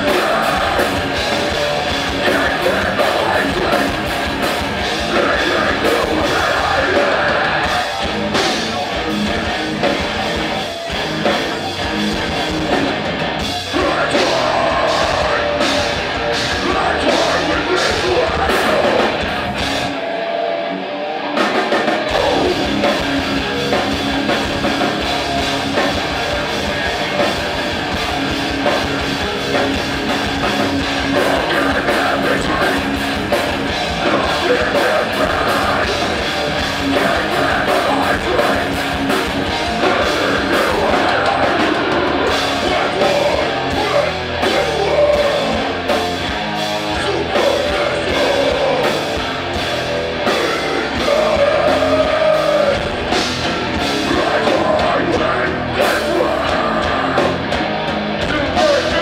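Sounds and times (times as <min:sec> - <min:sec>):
punk band playing live: 0:00.0 - 0:59.0.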